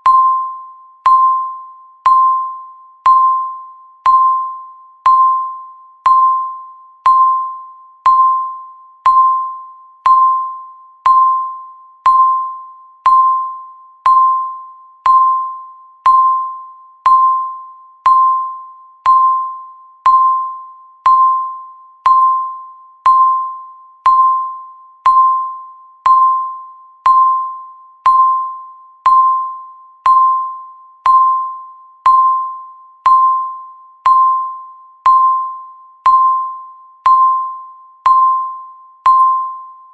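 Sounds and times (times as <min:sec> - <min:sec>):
electronic timer beeps: 0:00.0 - 0:39.9.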